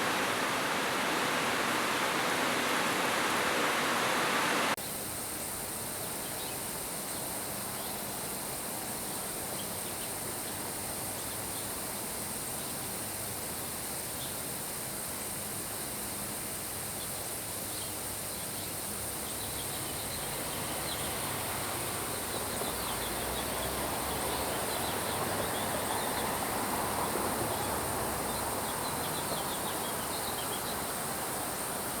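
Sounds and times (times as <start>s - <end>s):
insects droning: 0.0s - 32.0s
soft rain hiss: 0.0s - 32.0s.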